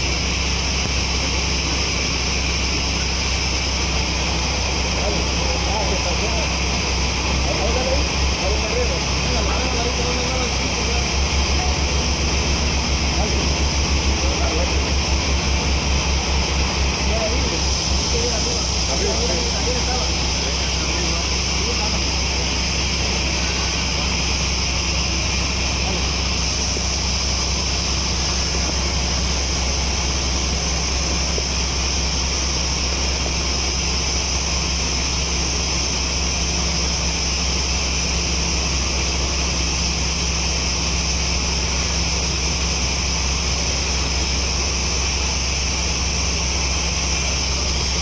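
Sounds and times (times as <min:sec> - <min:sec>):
gear high whine: 0:00.0 - 0:48.0
motor low hum: 0:00.0 - 0:48.0.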